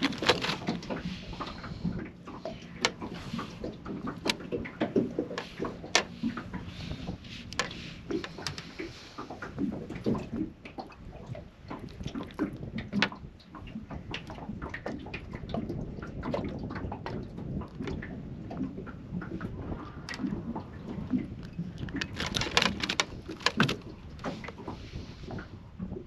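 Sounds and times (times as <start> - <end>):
water lapping against boat: 0.0 - 26.0.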